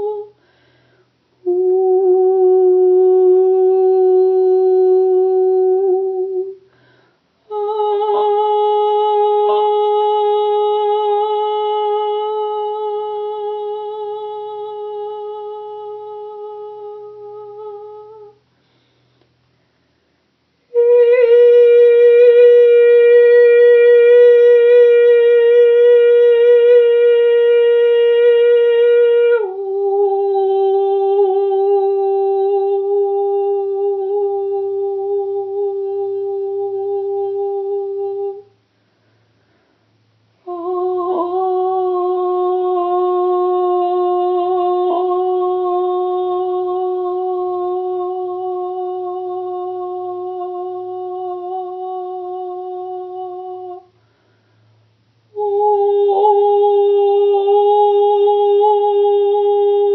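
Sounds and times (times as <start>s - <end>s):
woman singing long held tones: 0.0s - 18.8s, 20.6s - 38.7s, 40.3s - 59.9s.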